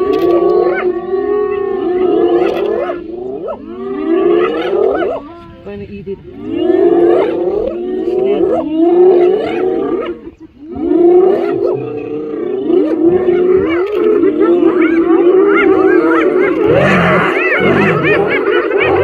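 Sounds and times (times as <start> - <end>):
hyenas calling: 0.0 - 5.5, 6.2 - 19.0.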